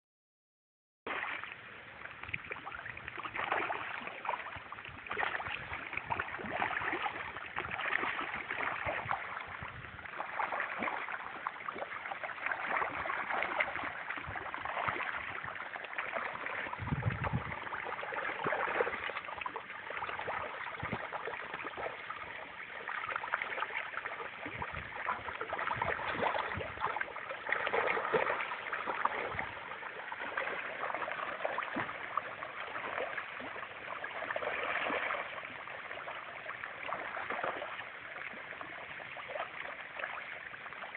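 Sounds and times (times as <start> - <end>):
water splashing: 1.1 - 40.9.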